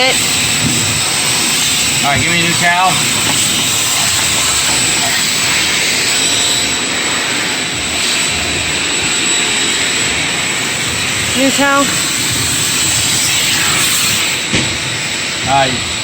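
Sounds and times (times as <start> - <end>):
shop vacuum running with whine: 0.0 - 16.0.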